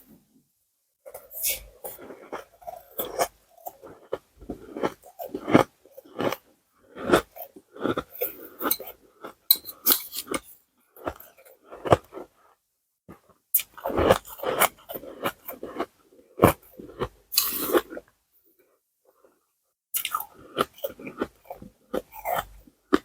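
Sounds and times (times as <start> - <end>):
ice being chewed and crunched: 1.1 - 12.4, 13.1 - 18.0, 20.0 - 23.0.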